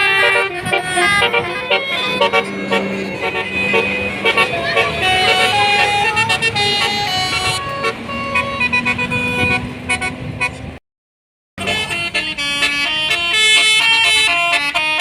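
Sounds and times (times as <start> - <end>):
bus air horn melody: 0.0 - 10.8, 11.6 - 15.0.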